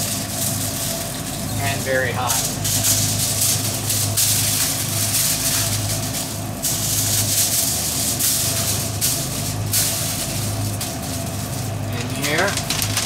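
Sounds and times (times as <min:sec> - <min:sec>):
loud even hiss: 0:00.0 - 0:12.6
kitchen equipment hum: 0:00.0 - 0:13.0.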